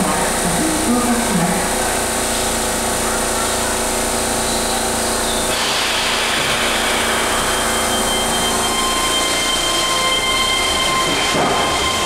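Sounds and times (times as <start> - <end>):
train electrical hum: 0.0 - 12.0
train motor whine: 0.0 - 12.0
train wheel noise: 0.0 - 12.0.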